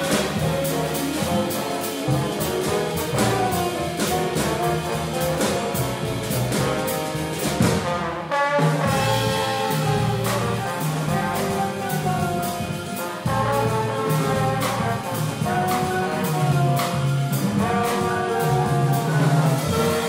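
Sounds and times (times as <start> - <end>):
alto saxophone: 0.0 - 20.0
drum kit: 0.0 - 20.0
piano: 0.0 - 20.0
trombone: 0.0 - 20.0
upright bass: 0.0 - 20.0.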